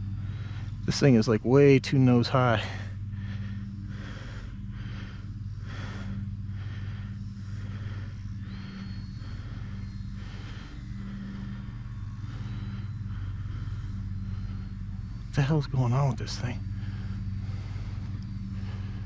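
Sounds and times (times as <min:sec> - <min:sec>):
faint high whine: 0:00.0 - 0:19.0
model plane motor buzzing: 0:00.0 - 0:19.0.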